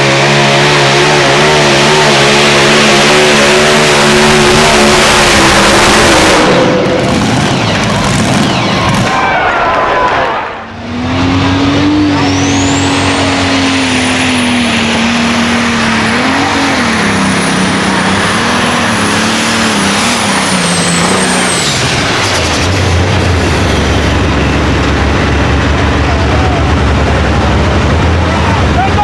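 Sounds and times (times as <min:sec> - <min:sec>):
tractor engine running flat out: 0:02.1 - 0:29.0
high whine: 0:02.6 - 0:29.0.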